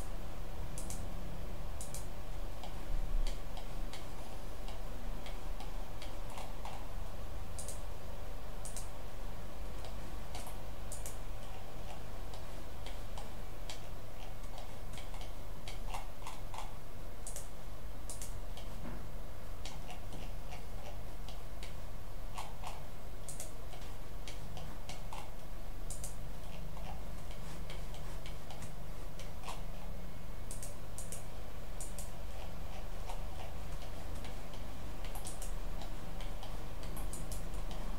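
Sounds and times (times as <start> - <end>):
steady low hum: 0.0 - 37.9
computer mouse clicking: 0.8 - 1.0, 1.8 - 6.9, 7.5 - 7.8, 8.6 - 8.9, 9.8 - 18.8, 19.6 - 29.9, 30.5 - 37.9.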